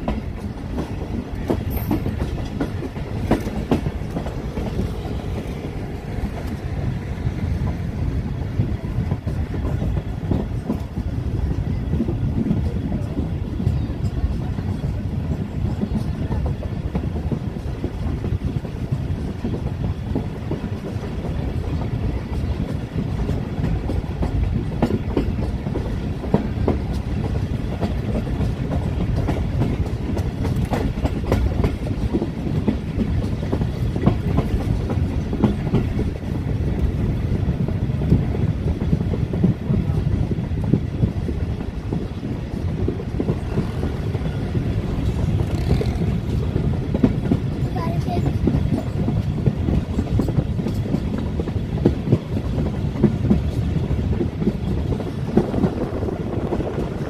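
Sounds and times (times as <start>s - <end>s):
train coach rumbling: 0.0s - 57.0s
wheels clicking over rail joints: 0.0s - 57.0s.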